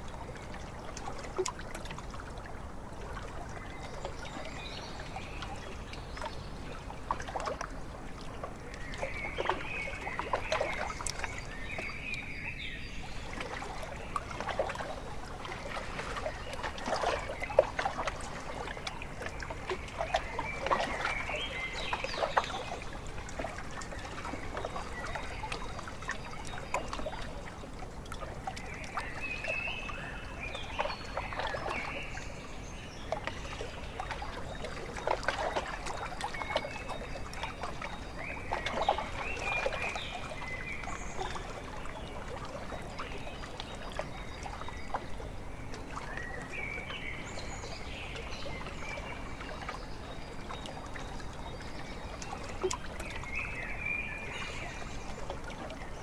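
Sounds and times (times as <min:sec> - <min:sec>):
small waves lapping: 0:00.0 - 0:56.0.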